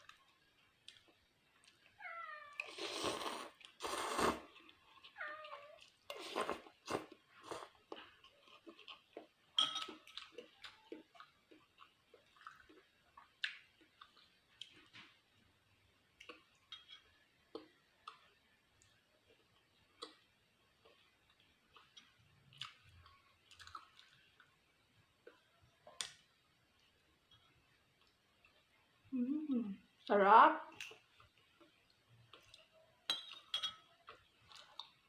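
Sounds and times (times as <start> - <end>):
person chewing food: 0.0 - 1.9, 2.6 - 15.3, 16.1 - 29.0, 30.8 - 35.0.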